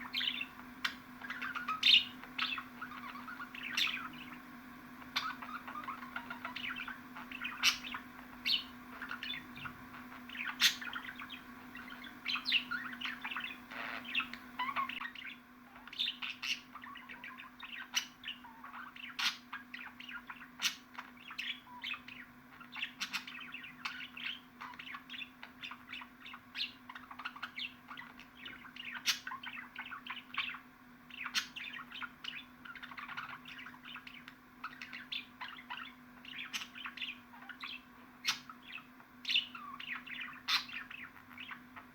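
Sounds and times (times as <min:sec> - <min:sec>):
budgerigars chirping and warbling: 0:00.0 - 0:41.9
steady low hum: 0:00.0 - 0:41.9.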